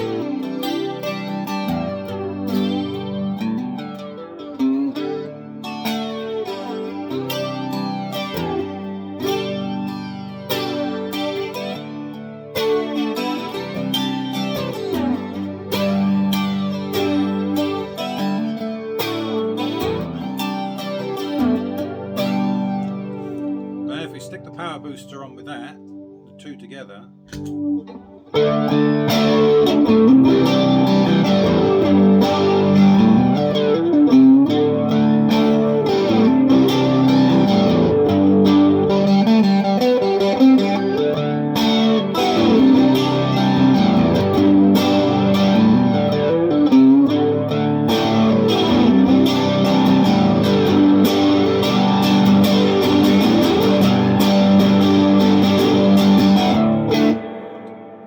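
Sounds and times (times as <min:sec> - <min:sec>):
flanged electric guitar chords: 0:00.0 - 0:58.0.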